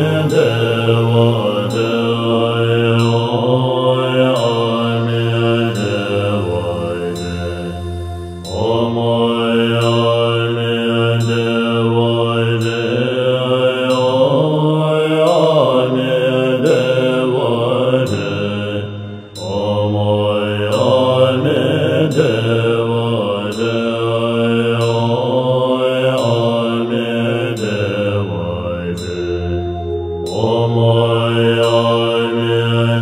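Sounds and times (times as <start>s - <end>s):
person chanting melodically: 0.0s - 33.0s.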